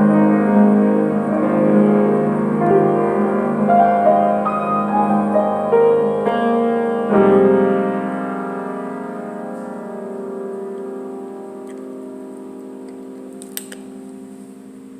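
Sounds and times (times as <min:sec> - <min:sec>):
slow gentle piano music: 0:00.0 - 0:14.9.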